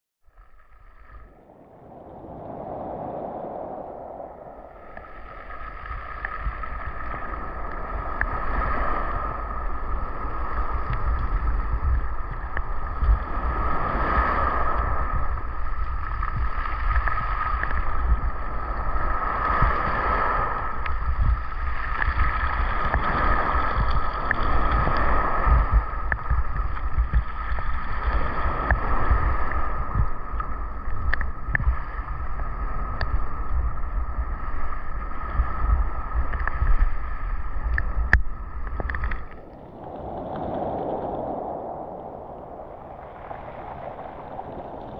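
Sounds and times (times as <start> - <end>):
water lapping and sloshing: 0.3 - 44.9.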